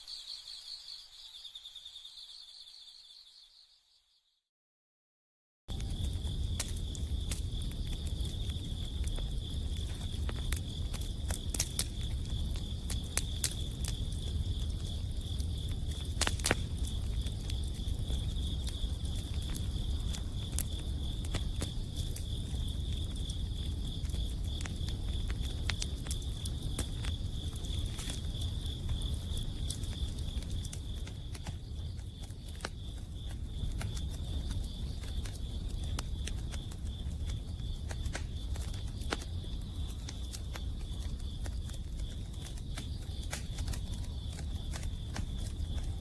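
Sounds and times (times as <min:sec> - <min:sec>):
insects trilling: 0:00.0 - 0:04.1, 0:05.7 - 0:46.0
campfire crackling and popping: 0:05.7 - 0:46.0.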